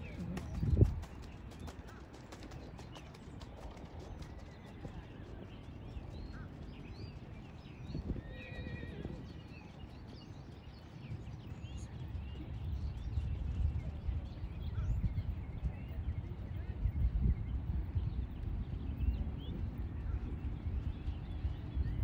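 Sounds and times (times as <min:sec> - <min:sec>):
hoofbeats on sand: 0:00.0 - 0:22.0.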